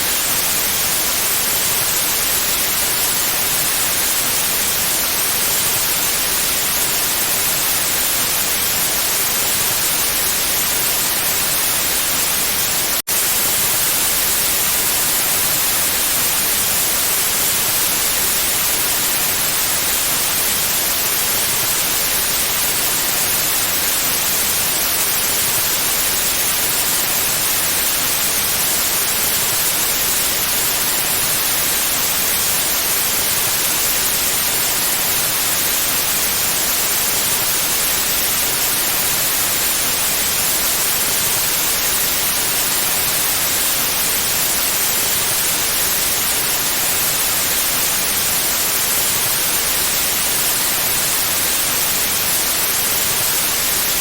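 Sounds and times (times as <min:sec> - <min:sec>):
loud white-noise hiss: 0:00.0 - 0:54.0.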